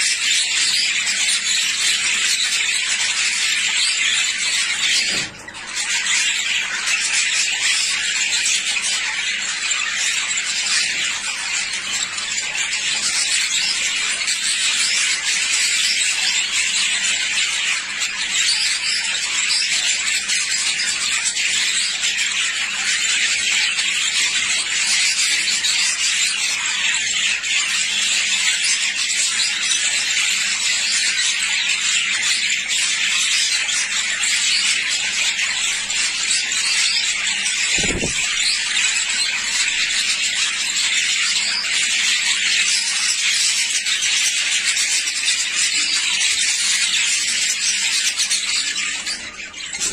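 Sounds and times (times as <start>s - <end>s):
budgerigars chattering: 0.0s - 49.9s.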